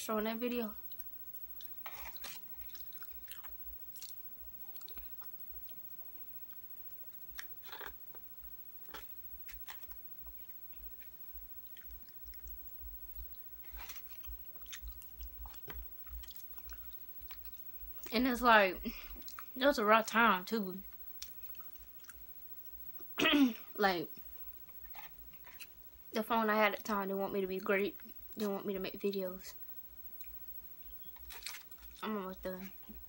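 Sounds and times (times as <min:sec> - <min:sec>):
close-up chewing: 0:00.8 - 0:18.1, 0:18.8 - 0:23.2, 0:24.1 - 0:26.9, 0:29.4 - 0:33.0.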